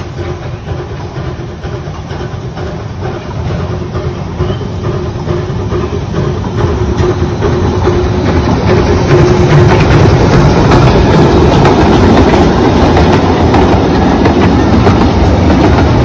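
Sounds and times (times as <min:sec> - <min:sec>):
steam locomotive rumble: 0:00.0 - 0:16.0
wheels clacking over rail joints: 0:00.0 - 0:16.0.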